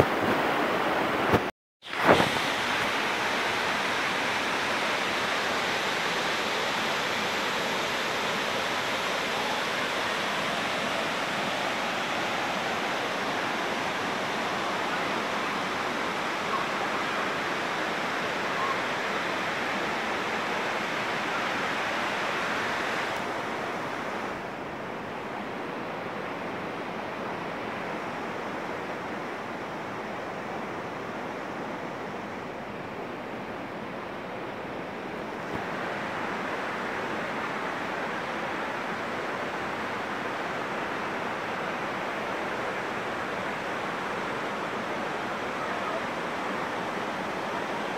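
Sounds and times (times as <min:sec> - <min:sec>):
waterfall rushing: 0:00.0 - 0:33.1, 0:34.6 - 0:47.9.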